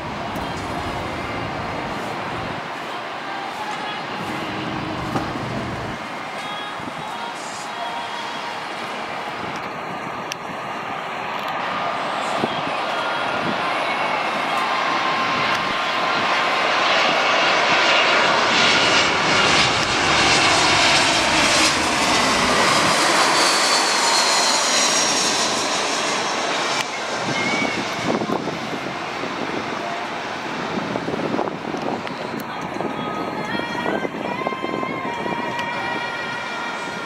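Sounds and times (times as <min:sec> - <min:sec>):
jet airliner passing overhead: 0:00.0 - 0:37.0
jet engine whine falling in pitch: 0:00.0 - 0:37.0.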